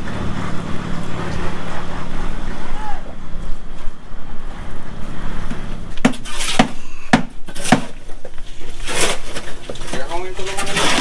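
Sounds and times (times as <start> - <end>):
short scraping clatter: 0.0 - 11.0.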